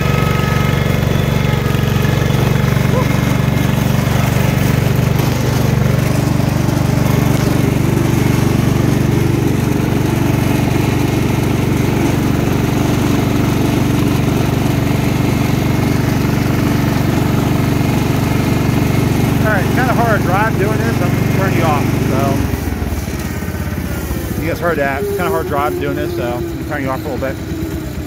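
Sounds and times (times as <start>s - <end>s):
garden tractor engine running: 0.0s - 28.0s.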